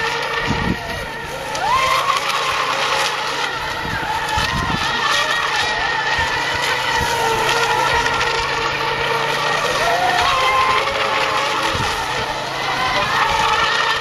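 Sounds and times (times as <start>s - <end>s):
racing boat motors whining: 0.0s - 14.0s.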